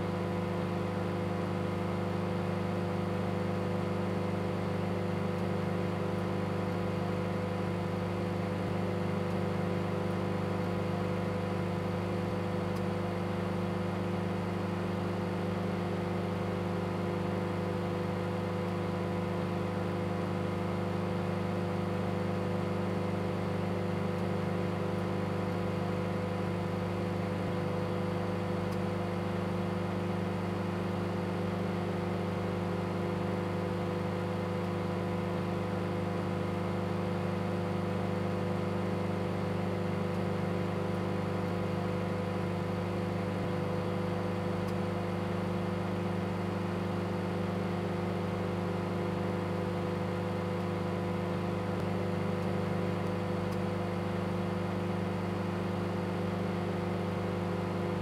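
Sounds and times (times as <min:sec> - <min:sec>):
microwave oven hum: 0:00.0 - 0:58.0.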